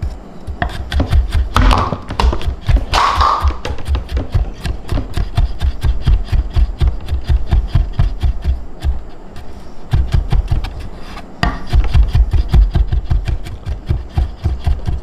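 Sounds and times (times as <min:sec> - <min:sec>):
knife chopping on wooden board: 0:00.5 - 0:09.0, 0:09.9 - 0:10.8, 0:11.4 - 0:15.0.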